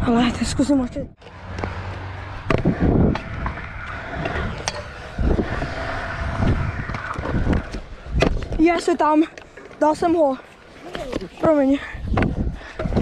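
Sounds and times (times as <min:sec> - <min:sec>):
scooter wheels rolling on concrete: 0:00.0 - 0:13.0.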